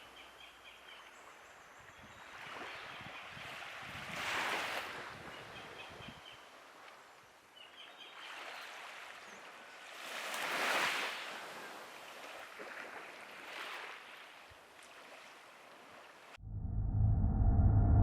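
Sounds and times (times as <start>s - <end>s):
small waves washing onto beach: 1.0s - 16.4s.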